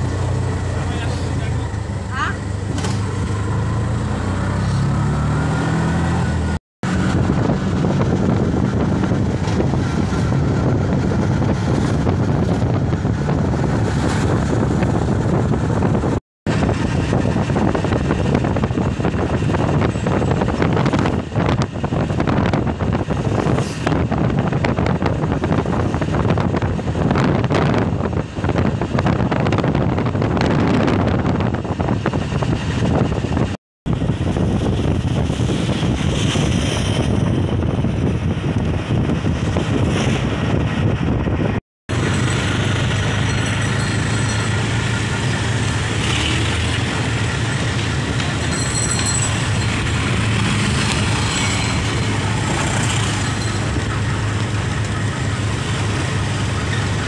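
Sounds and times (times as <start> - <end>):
vehicle road noise: 0.0 - 57.0
wind rushing over microphone: 0.0 - 57.0.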